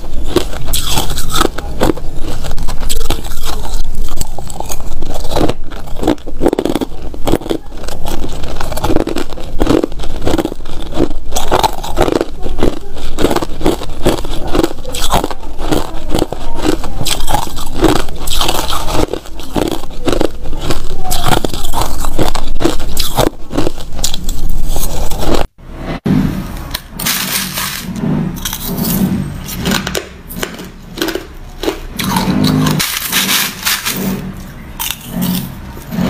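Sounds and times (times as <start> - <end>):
crushed ice being chewed: 0.0 - 25.5, 27.0 - 36.0.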